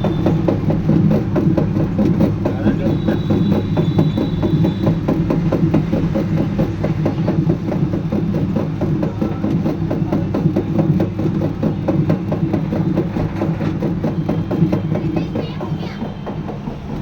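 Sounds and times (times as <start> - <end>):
quick regular knocking: 0.0 - 17.0.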